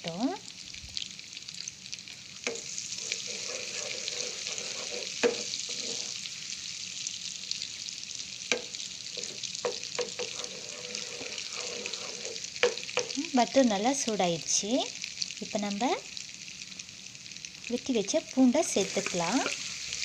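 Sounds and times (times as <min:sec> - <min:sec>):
butter sizzling in a pan: 0:00.0 - 0:20.0.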